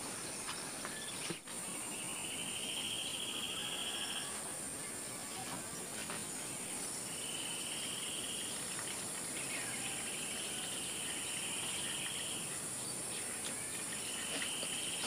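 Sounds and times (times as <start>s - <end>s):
lower insect trill: 0.0s - 15.0s
high-pitched insect trill: 0.3s - 5.4s, 6.4s - 15.0s.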